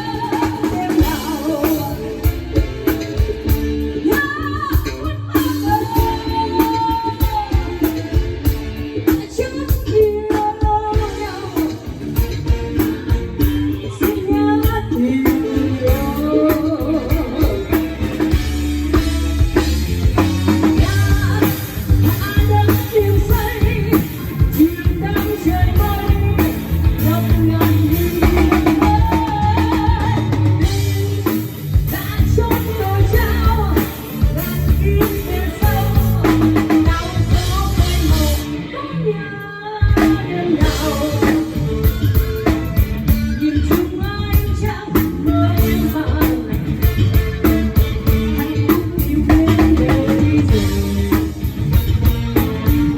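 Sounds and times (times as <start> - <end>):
pop-rock song with singing: 0.0 - 52.9.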